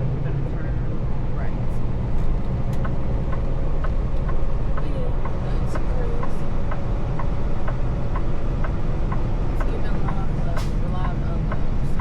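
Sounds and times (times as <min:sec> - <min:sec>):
road noise: 0:00.0 - 0:12.0
truck engine rumble: 0:00.0 - 0:12.0
regular ticking: 0:01.0 - 0:12.0.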